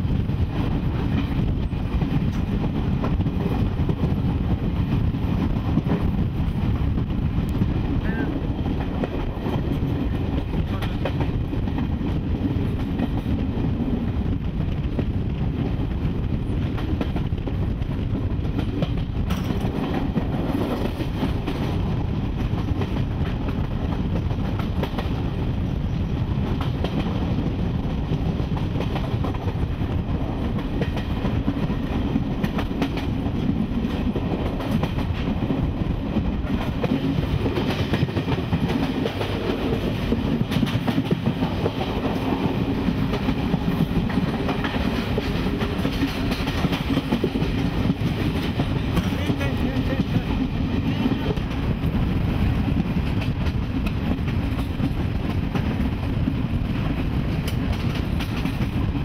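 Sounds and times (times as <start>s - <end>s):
train rumble and wheel clatter: 0.0s - 59.0s.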